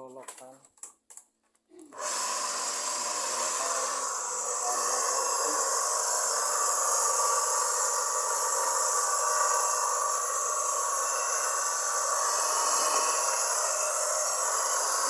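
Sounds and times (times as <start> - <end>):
electric grater motor whirring: 2.0 - 15.0.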